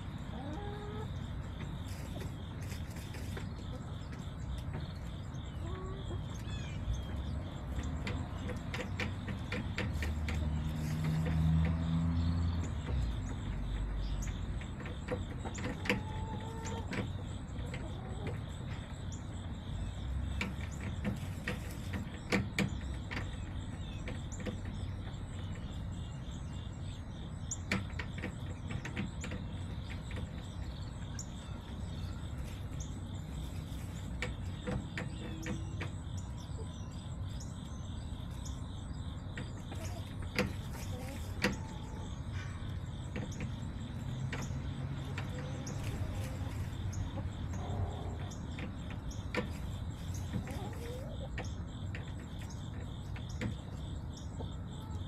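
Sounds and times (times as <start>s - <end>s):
hens calling: 0.0s - 11.8s, 12.6s - 18.9s, 20.8s - 55.0s.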